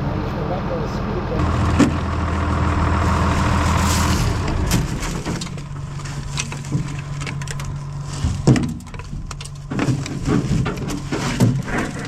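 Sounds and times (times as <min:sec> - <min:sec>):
tractor engine idling: 0:01.3 - 0:12.0
cracking and clunking of machinery work: 0:01.4 - 0:12.0.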